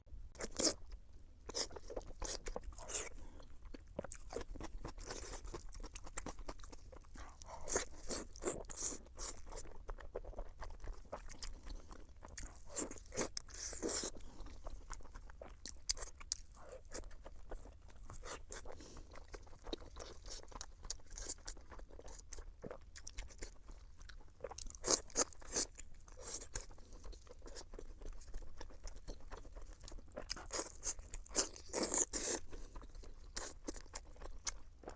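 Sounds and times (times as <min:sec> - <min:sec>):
low steady hum: 0:00.1 - 0:31.7
chewing and crunching food: 0:00.2 - 0:34.9.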